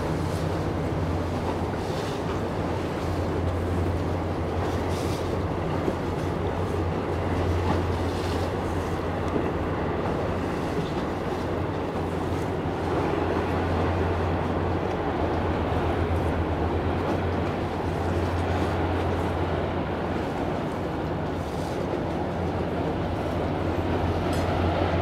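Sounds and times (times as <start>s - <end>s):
ship diesel engines droning: 0.0s - 25.0s.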